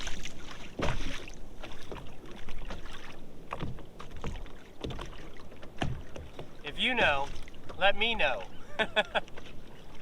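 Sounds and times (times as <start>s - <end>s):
low sea wash: 0.0s - 10.0s
water slapping a kayak: 0.0s - 10.0s.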